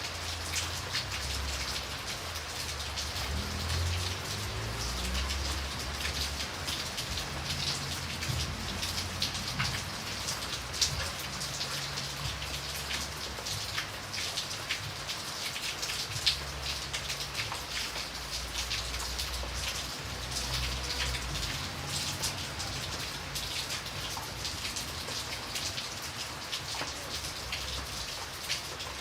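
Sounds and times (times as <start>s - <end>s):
raindrops ticking on a surface: 0.0s - 29.0s
steady rain falling: 0.0s - 29.0s.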